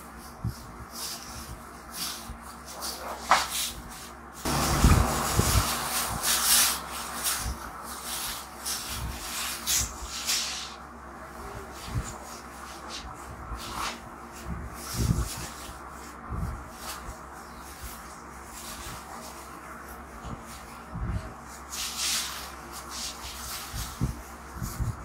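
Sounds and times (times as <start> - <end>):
cape rustling: 0.2 - 25.0.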